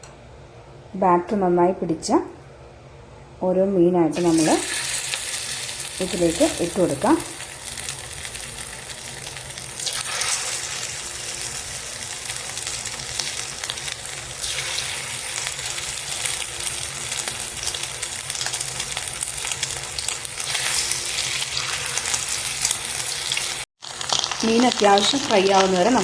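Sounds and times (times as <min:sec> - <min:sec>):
fish sizzling in oil: 0:04.2 - 0:26.0.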